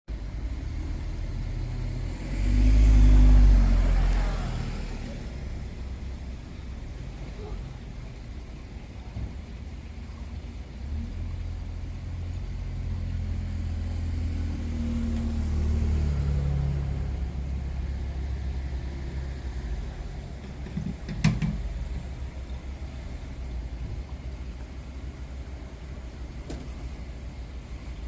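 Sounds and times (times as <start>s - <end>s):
vehicle engine rumble: 0.1s - 28.0s.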